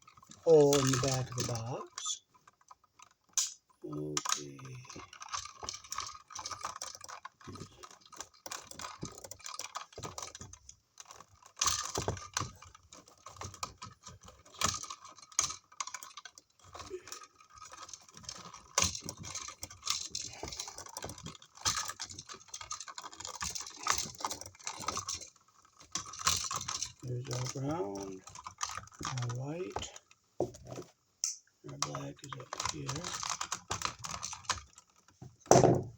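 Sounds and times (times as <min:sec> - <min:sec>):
electrical cable rustling and scraping: 0:00.0 - 0:35.9.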